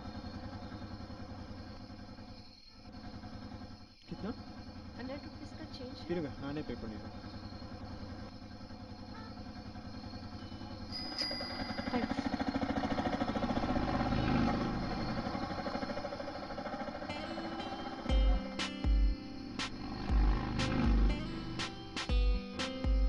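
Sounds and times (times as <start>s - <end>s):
small engine running: 0.0s - 2.4s, 3.0s - 22.4s.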